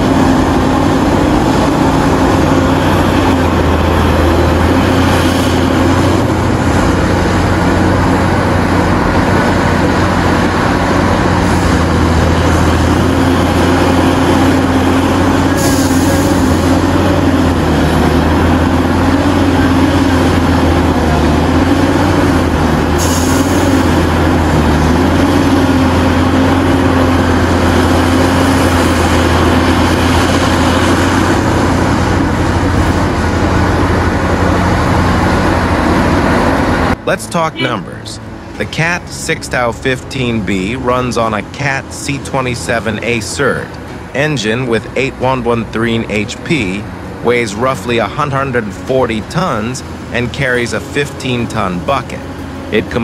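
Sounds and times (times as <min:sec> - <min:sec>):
diesel engine droning under load: 0:00.0 - 0:53.0.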